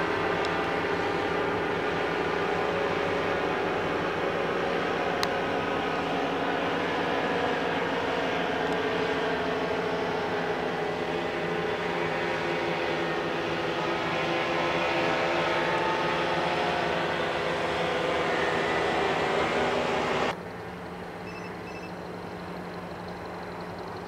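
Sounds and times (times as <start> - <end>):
paramotor engines droning: 0.0 - 24.0.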